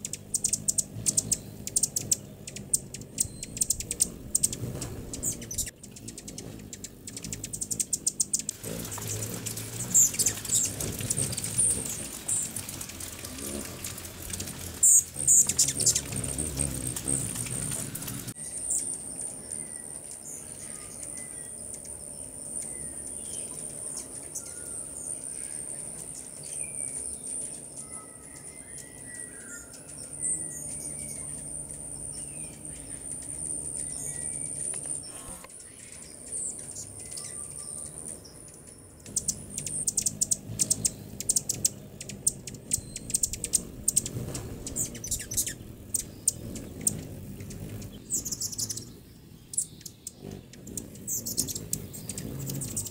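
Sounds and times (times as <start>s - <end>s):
steady high hiss: 0.0s - 26.6s, 29.7s - 52.9s
hummingbirds chirping: 0.0s - 52.9s.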